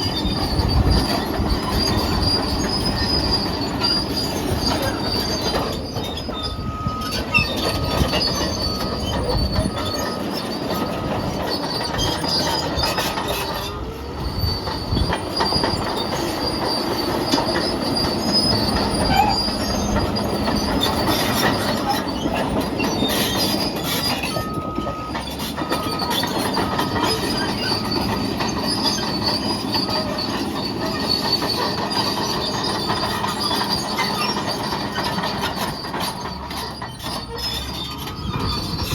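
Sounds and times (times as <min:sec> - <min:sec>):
bulldozer running under load: 0:00.0 - 0:38.9
steel tracks clanking and squealing: 0:00.0 - 0:38.9.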